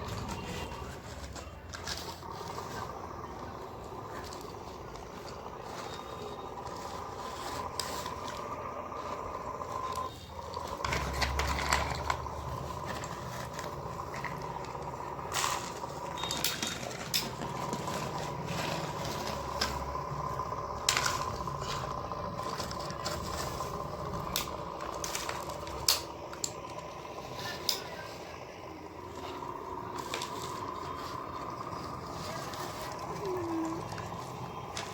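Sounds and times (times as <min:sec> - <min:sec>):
toy excavator scraping soil: 0:00.0 - 0:34.9.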